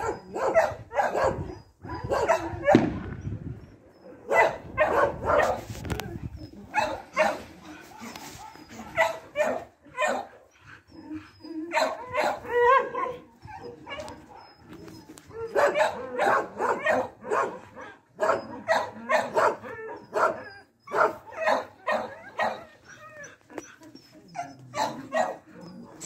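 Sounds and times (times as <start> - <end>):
dog barking and whining: 0.0 - 2.8, 3.9 - 26.0.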